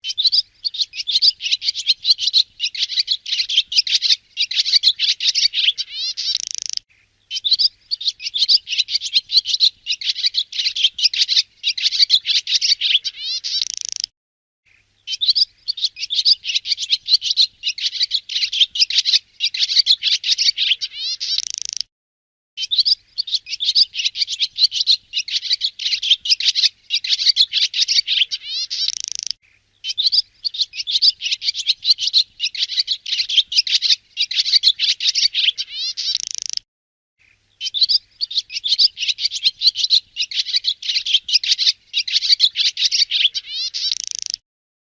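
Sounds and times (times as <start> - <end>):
swallow twittering song: 0.0 - 14.1, 14.7 - 21.9, 22.6 - 36.6, 37.2 - 44.4.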